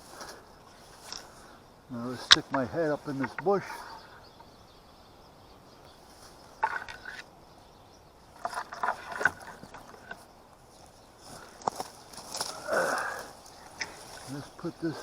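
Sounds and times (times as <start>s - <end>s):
branches and leaves rustling: 0.0s - 15.0s.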